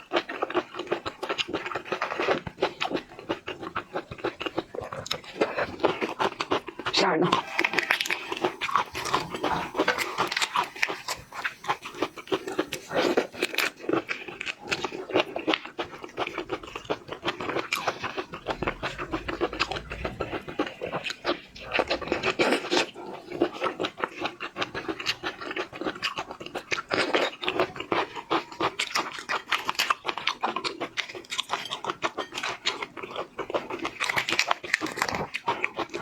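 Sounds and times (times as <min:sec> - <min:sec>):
wet chewing and crunching: 0:00.0 - 0:36.0.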